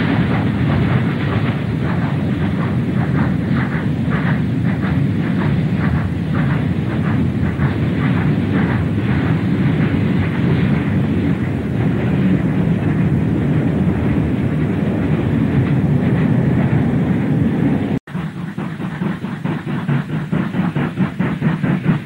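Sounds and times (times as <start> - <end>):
locomotive exhaust beats: 0.0 - 22.0
steam locomotive rumble: 0.0 - 22.0.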